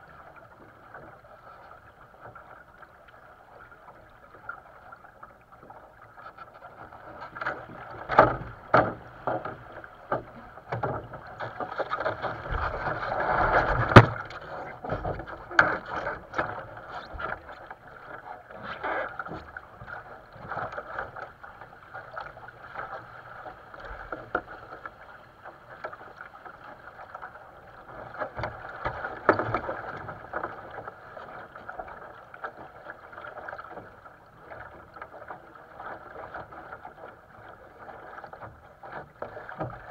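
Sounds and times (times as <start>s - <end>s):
water rushing along hull: 0.0s - 39.9s.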